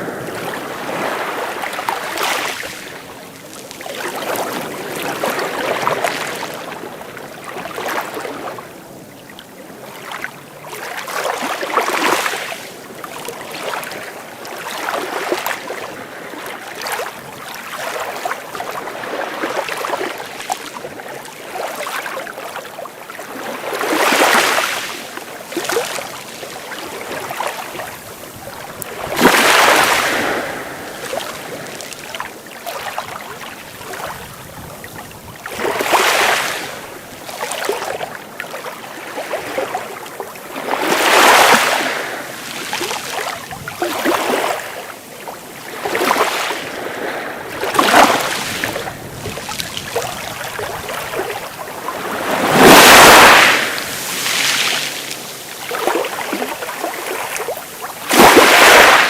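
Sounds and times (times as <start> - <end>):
sea waves crashing on shore: 0.0 - 59.0
steady wash of water: 0.0 - 59.0.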